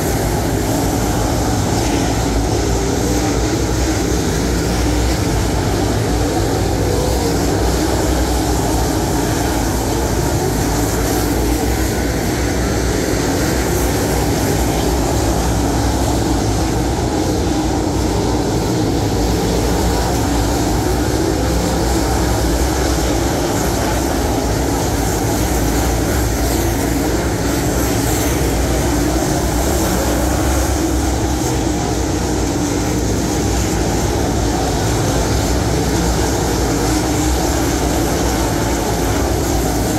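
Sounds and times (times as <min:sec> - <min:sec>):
race car engines droning: 0:00.0 - 0:39.9.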